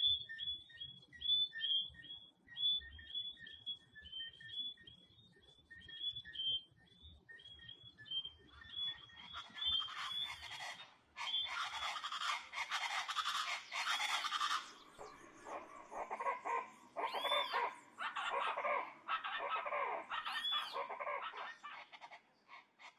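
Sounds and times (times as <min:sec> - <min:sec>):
birds calling harshly: 0:00.0 - 0:22.9
frogs chirping: 0:00.0 - 0:22.9.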